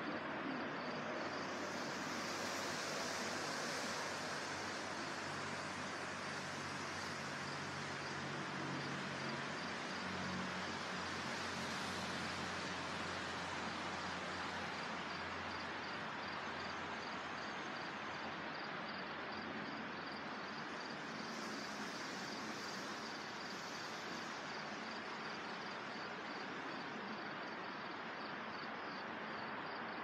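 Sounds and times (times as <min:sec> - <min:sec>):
wind rushing through trees: 0:00.0 - 0:30.0.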